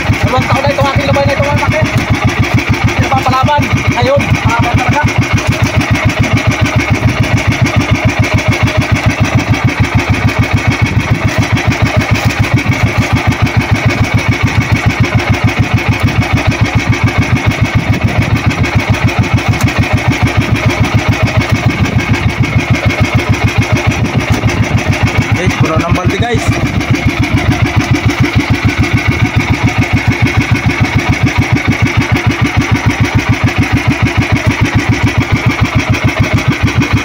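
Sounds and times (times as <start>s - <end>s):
boat engine pulsing: 0.0s - 37.0s.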